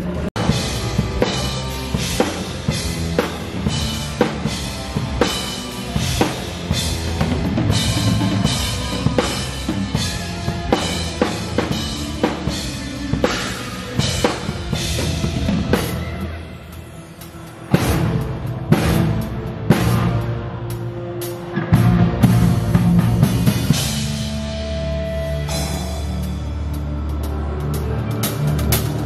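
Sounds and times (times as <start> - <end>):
drum kit beat: 0.0 - 29.0
rock band playing: 0.0 - 29.0.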